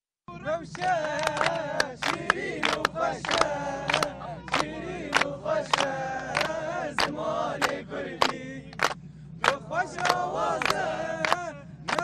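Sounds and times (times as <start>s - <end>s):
group singing or chanting: 0.3s - 12.0s
hands clapping in unison: 0.7s - 12.0s.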